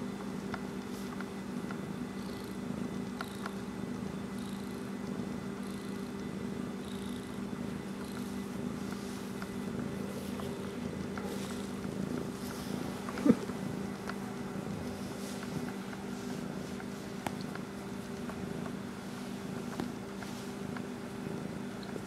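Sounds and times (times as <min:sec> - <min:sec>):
cat purring: 0:00.1 - 0:22.0.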